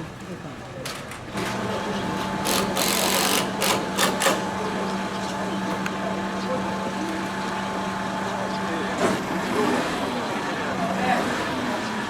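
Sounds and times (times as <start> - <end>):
machine motor humming: 1.3 - 12.0.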